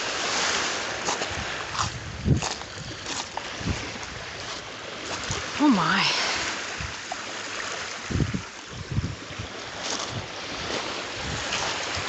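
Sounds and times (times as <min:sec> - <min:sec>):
wind buffeting microphone: 0:00.0 - 0:07.1, 0:07.9 - 0:12.0
waves washing onto beach: 0:00.0 - 0:12.0.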